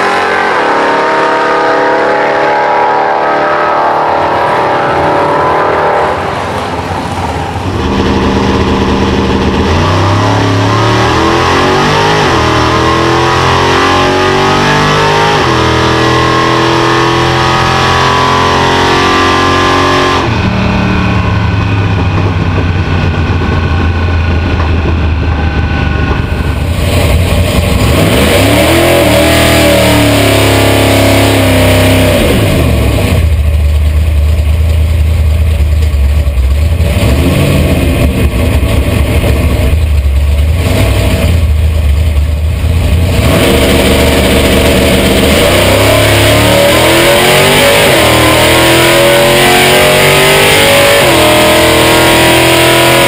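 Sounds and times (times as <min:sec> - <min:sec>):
car engine revving hard: 0:00.0 - 0:33.5, 0:36.5 - 0:53.0.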